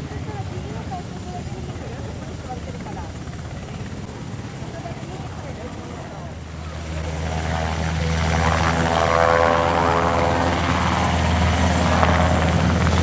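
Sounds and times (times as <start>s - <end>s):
helicopter rotor beating: 0.0s - 13.0s
turbine and tail-rotor whine: 0.0s - 13.0s.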